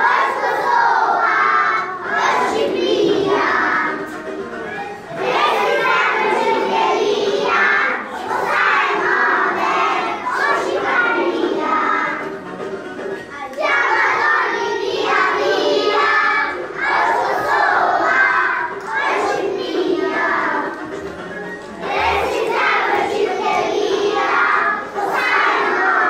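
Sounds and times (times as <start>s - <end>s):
children singing loudly: 0.0s - 12.4s, 13.2s - 26.0s.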